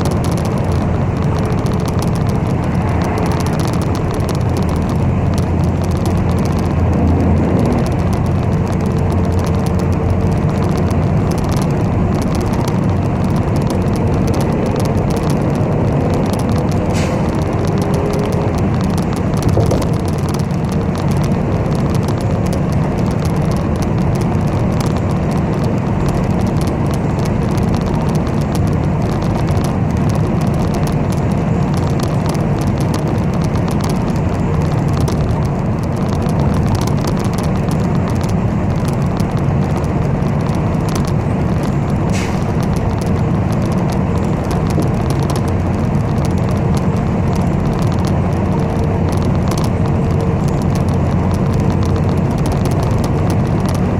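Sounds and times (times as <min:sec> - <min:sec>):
bus engine and road rumble: 0:00.0 - 0:53.9.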